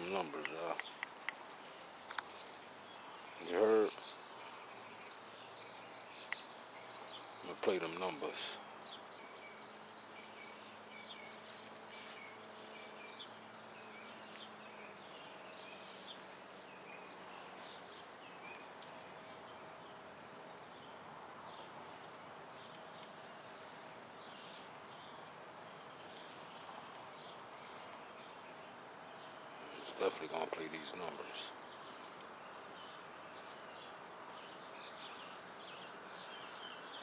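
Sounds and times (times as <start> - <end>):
background haze: 0.0 - 36.8
small birds chirping: 0.0 - 37.0.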